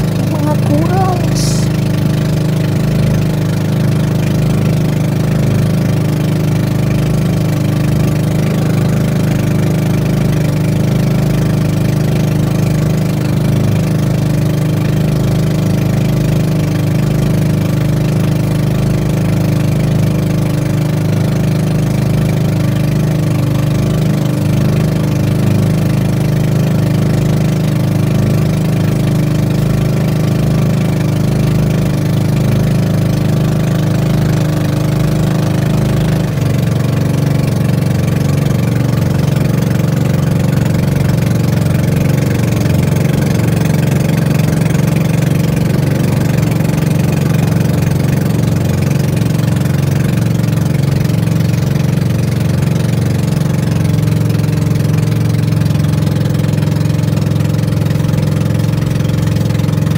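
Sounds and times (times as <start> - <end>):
boat engine low hum: 0.0 - 59.9.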